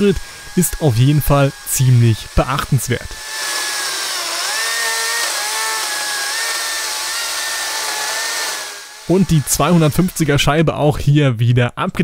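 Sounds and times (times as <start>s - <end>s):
chainsaw cutting through log: 0.0s - 10.6s.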